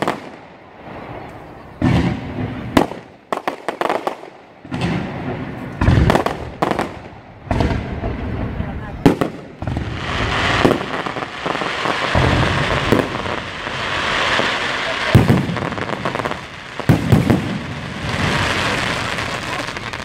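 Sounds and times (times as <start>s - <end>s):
firework shells exploding: 0.0s - 20.0s
fireworks crackling: 0.0s - 20.0s.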